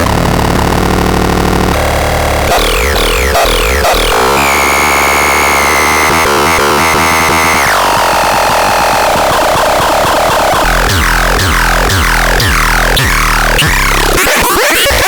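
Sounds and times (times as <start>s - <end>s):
dubstep dance music: 1.8s - 15.0s.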